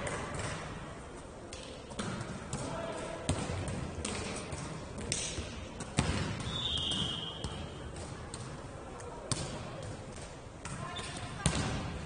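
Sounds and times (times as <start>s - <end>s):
ball bouncing on indoor court: 0.0s - 12.0s.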